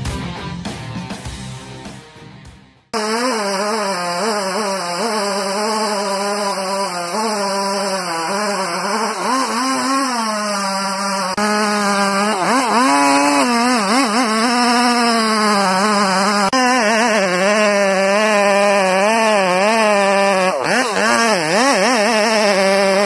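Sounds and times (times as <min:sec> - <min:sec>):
chainsaw cutting wood: 0:02.9 - 0:23.0.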